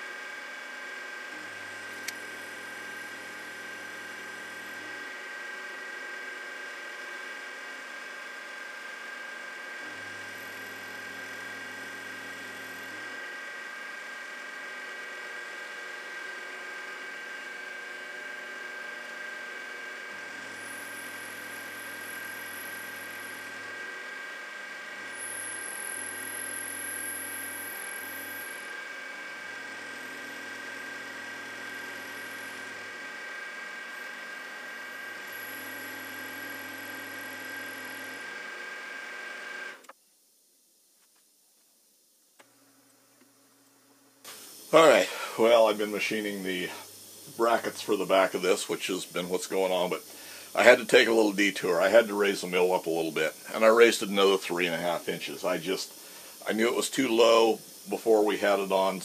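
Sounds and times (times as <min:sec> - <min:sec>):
high-pitched drill motor whine: 0:00.0 - 0:39.9, 0:44.3 - 0:59.0.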